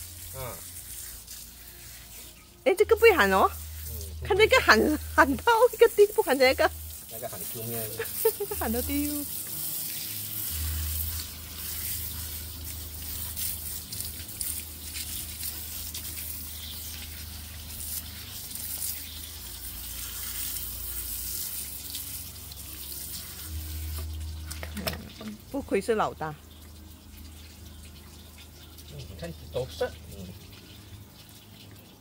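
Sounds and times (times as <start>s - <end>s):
water splashing on concrete: 0.0s - 32.0s
water spraying from hose: 0.0s - 32.0s.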